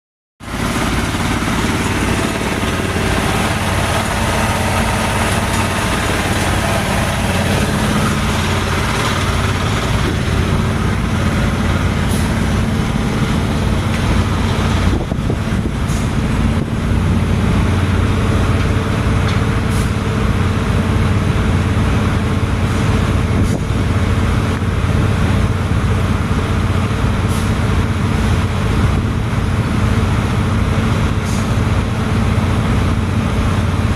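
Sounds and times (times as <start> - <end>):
diesel engine running: 0.4 - 33.9.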